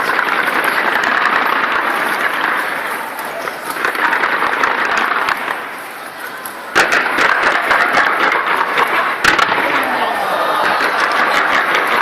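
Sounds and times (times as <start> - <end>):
crowd shouting and cheering: 0.0 - 12.0
fireworks bangs: 0.0 - 12.0.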